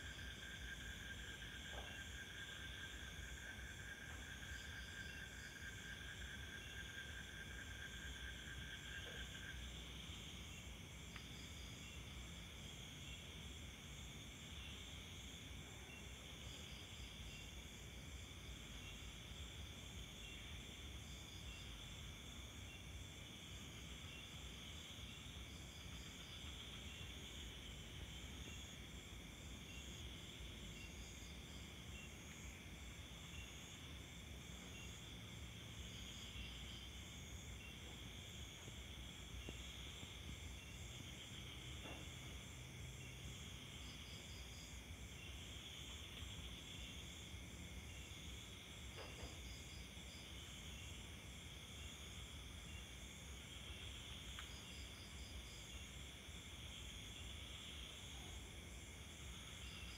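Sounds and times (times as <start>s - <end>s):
low background noise: 0.0s - 59.9s.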